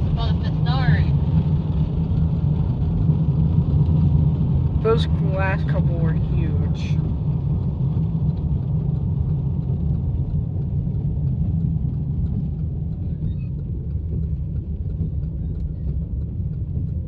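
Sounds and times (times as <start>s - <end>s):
car cabin road drone: 0.0s - 17.0s.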